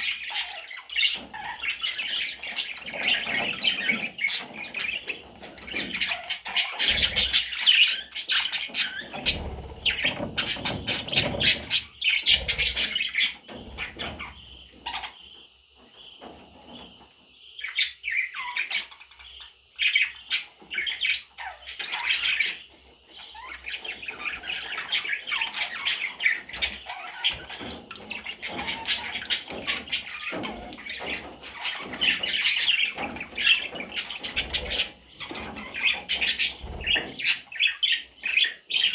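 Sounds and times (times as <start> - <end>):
bird chicks chattering and squawking: 0.0 - 38.9.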